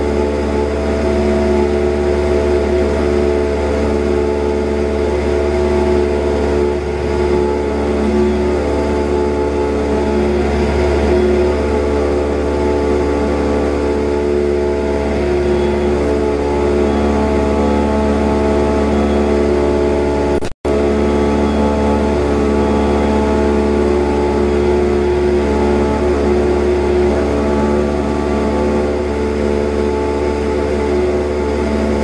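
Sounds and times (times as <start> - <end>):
airplane engine drone in cockpit: 0.0 - 32.0.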